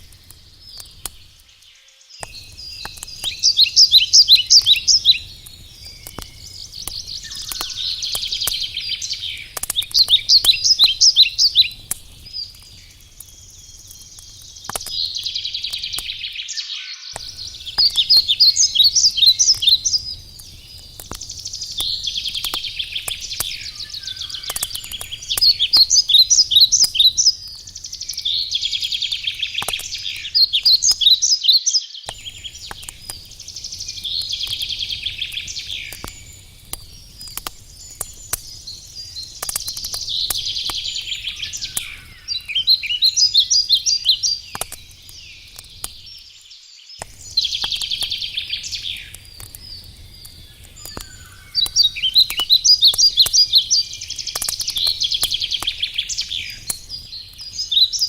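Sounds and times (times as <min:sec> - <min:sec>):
wood fire crackling: 0:00.0 - 0:16.6, 0:17.2 - 0:31.4, 0:32.0 - 0:58.0
songbird singing trills: 0:00.0 - 0:58.0.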